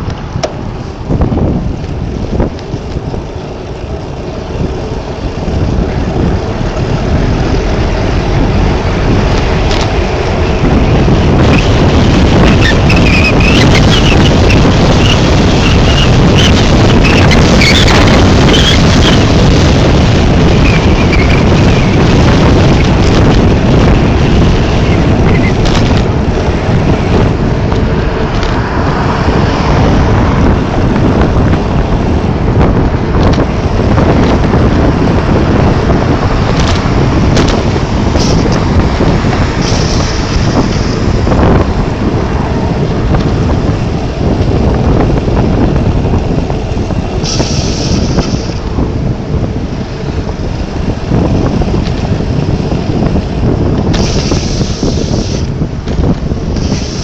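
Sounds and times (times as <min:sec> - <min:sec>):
gusty wind on microphone: 0:00.0 - 0:57.0.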